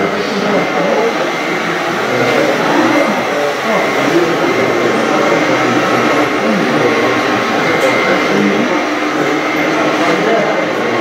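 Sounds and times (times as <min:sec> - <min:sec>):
high whine of hydraulic pumps: 0:00.0 - 0:11.0
many voices: 0:00.0 - 0:11.0.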